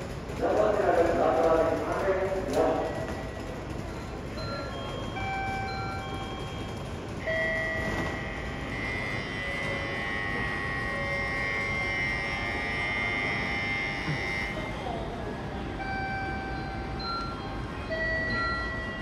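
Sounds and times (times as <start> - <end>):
steady electronic ringing tone: 2.8 - 19.0.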